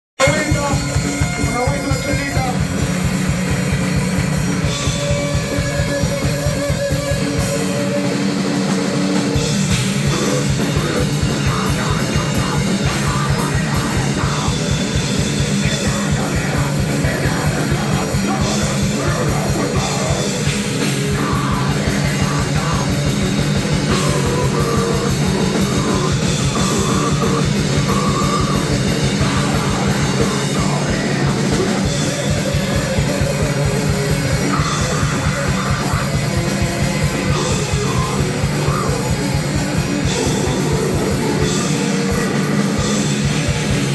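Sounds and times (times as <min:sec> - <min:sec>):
distorted guitar and bass: 0:00.2 - 0:43.9
rapid drumming: 0:00.2 - 0:43.9.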